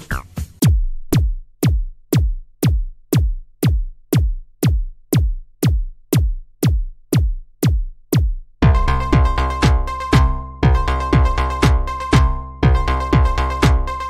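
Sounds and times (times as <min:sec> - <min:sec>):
drum machine kick drum: 0:00.0 - 0:14.0.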